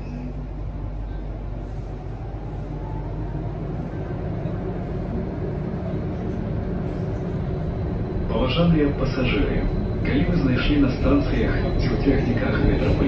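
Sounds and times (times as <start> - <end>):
train rumbling through tunnel: 0.0 - 13.0.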